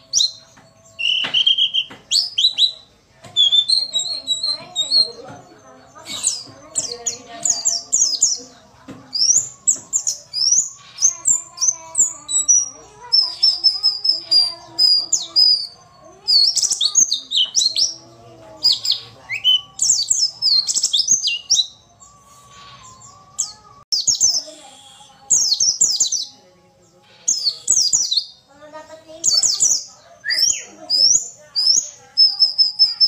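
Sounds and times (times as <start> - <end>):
bird twittering: 0.0 - 26.4, 27.0 - 33.0.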